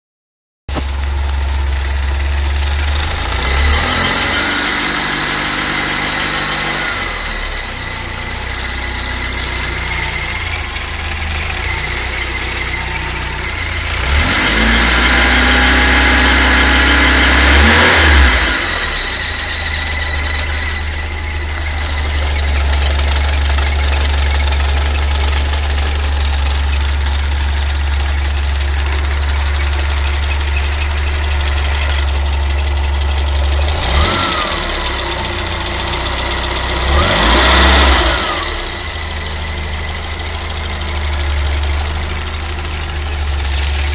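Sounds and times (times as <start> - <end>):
car engine idling and revving: 0.7 - 43.9
high-pitched engine whine: 0.7 - 43.9.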